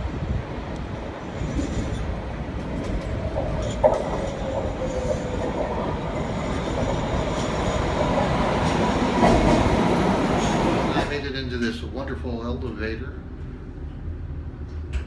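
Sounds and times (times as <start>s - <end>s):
rail car rumbling: 0.0s - 15.0s.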